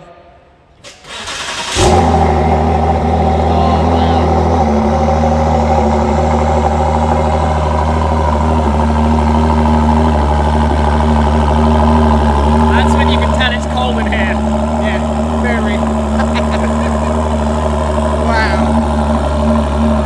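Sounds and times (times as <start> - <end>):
car engine starting and idling: 0.8 - 20.0.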